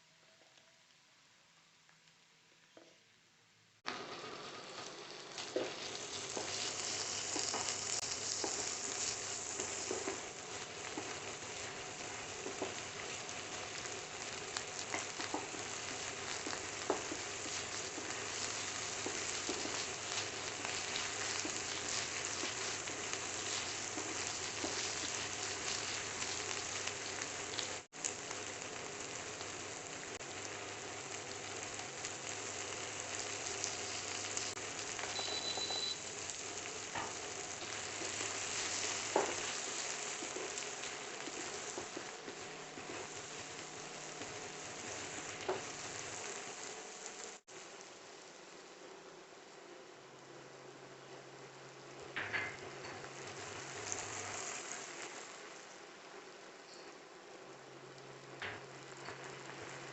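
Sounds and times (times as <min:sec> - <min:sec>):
noodles sizzling in hot oil: 0:03.8 - 0:59.9.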